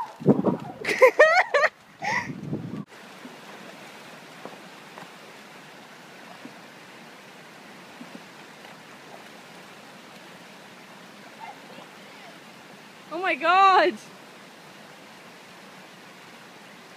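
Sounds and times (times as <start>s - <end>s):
water rushing over stones: 0.0s - 16.9s.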